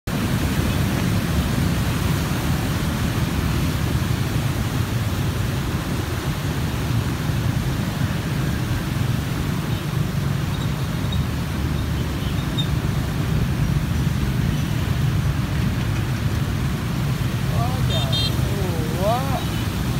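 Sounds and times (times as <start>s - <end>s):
motorbikes riding through water: 0.1s - 19.9s.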